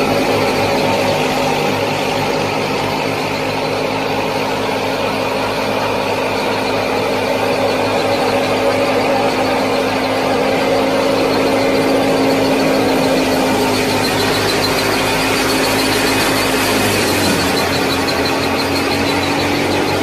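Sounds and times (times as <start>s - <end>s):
small motor humming: 0.0s - 20.0s.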